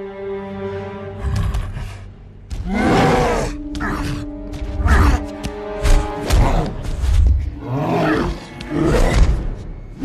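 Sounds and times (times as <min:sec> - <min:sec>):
orchestral music: 0:00.0 - 0:10.0.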